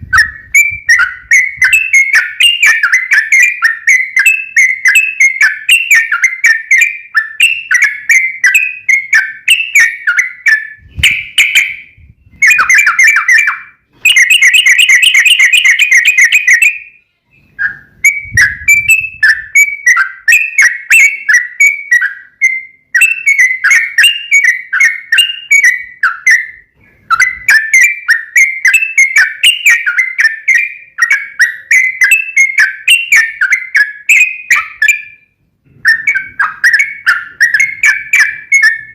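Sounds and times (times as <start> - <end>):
bird chirping song: 0.0 - 38.9
bird trill: 0.0 - 38.9.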